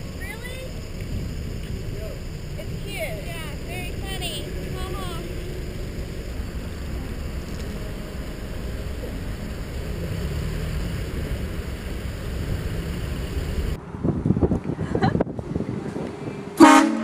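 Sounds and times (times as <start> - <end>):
car engine low rumbling: 0.0 - 16.5.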